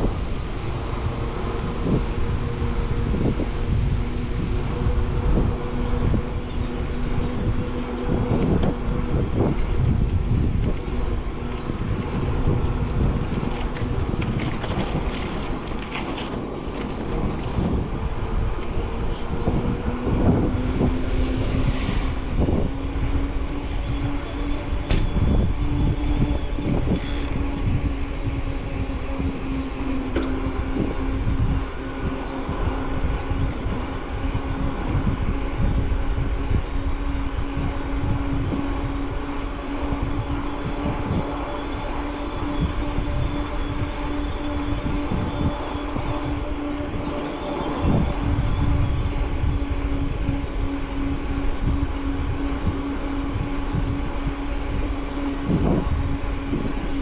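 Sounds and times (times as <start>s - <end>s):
low hum: 0.0s - 57.0s
wind rumbling on microphone: 0.0s - 57.0s.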